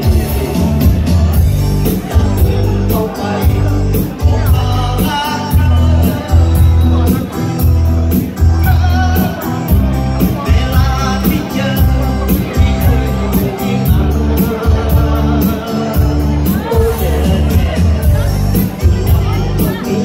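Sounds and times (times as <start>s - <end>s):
person singing: 0.0s - 20.0s.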